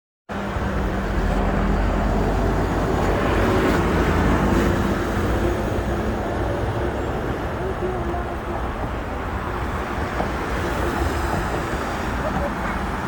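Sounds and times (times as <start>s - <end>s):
road and traffic noise: 0.3s - 13.0s.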